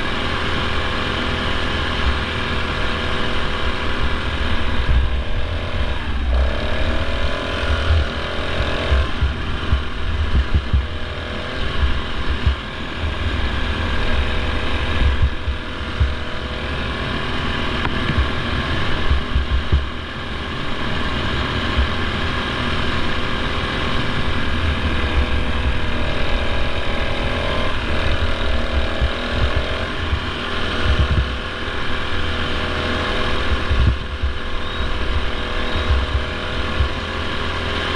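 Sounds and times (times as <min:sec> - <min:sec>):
heavy low rumble: 0:00.0 - 0:37.6
lawn mower engine running: 0:00.0 - 0:37.9.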